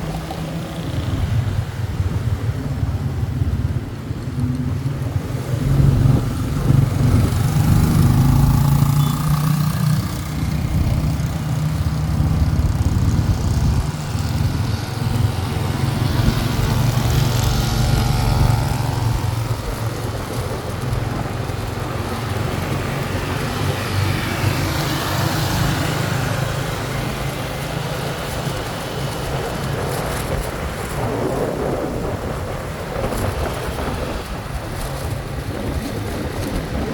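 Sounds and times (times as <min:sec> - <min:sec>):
wind and road noise: 0:00.0 - 0:36.9
motorcycle engine running: 0:04.7 - 0:36.9.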